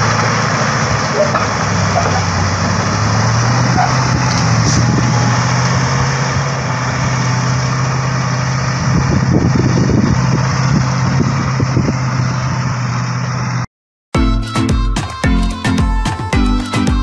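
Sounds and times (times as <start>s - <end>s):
diesel truck engine running: 0.0s - 13.7s.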